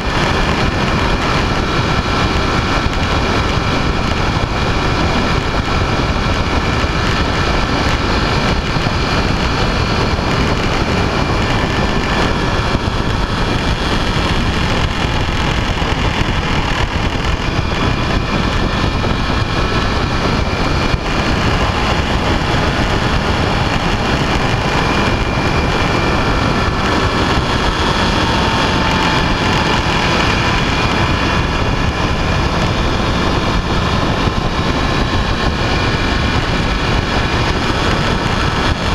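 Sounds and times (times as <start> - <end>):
motorcycle engine and road roar: 0.0 - 38.9
wind rushing over microphone: 0.0 - 38.9.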